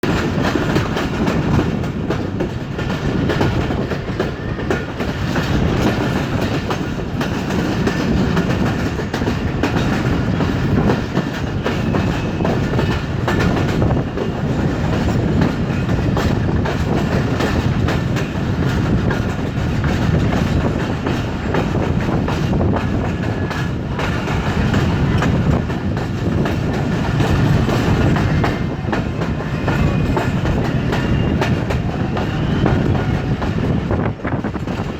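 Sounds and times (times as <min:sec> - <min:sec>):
train wheels clattering over rail joints: 0:00.0 - 0:34.9.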